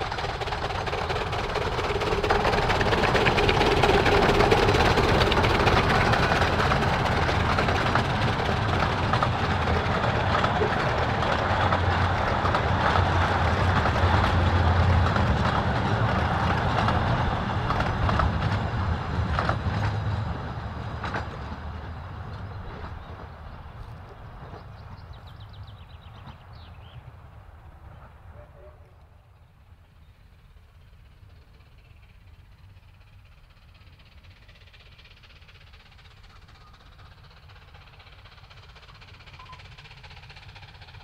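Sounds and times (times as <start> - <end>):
rail clicks: 0.0 - 27.0, 27.8 - 41.0
train rumbling on rails: 0.0 - 41.0.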